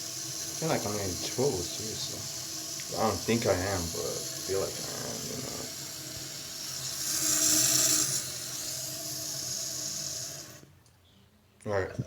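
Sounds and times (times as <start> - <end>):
toilet fill valve hissing: 0.0 - 10.7.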